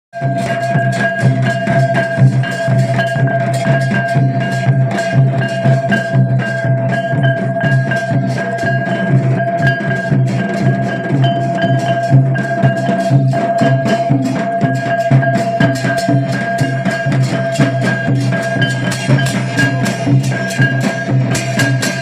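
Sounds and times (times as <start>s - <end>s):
fast drumming: 0.1s - 22.0s
held melodic tone: 0.2s - 22.0s.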